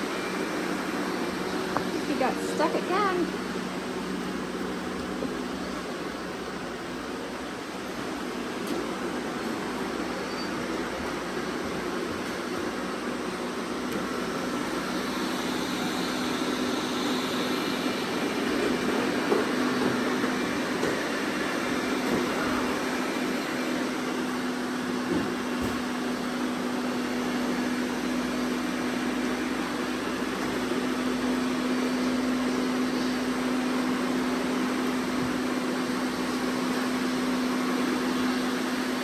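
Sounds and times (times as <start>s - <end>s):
robot vacuum cleaners whirring: 0.0s - 39.0s.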